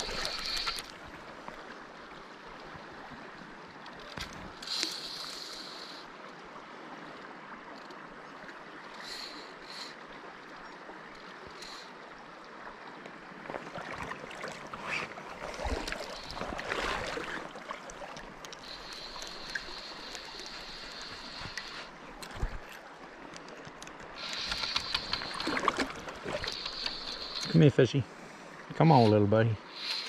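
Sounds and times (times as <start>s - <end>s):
river current flowing: 0.0s - 30.0s.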